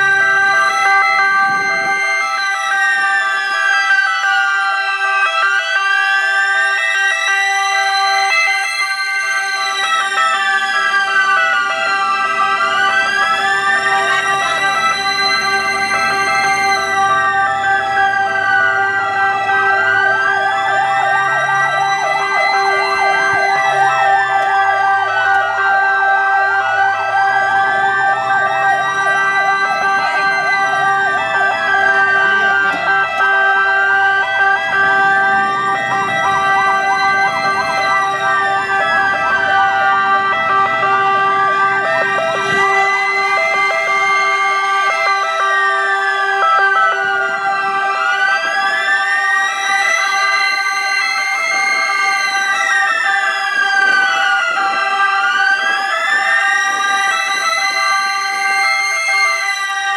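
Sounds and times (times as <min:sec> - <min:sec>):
ambulance sirens wailing: 0:00.0 - 0:59.9
fast warbling siren: 0:00.0 - 0:59.9
steady held siren tones: 0:00.0 - 0:59.9.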